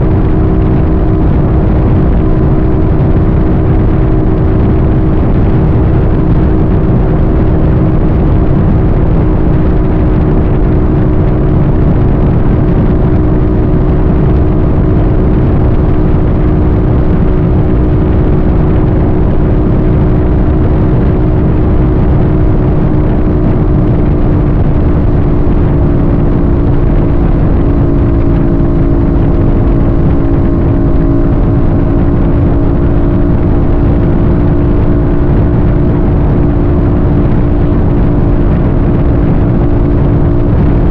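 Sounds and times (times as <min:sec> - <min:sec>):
vehicle engine drone: 0:00.0 - 0:40.9
wind and road noise: 0:00.0 - 0:40.9.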